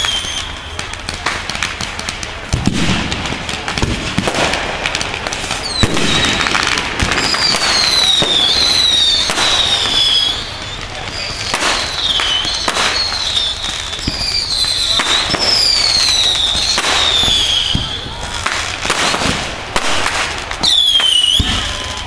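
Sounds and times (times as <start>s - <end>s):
fireworks bangs and crackles: 0.0s - 22.0s
fireworks whistling: 0.0s - 22.0s.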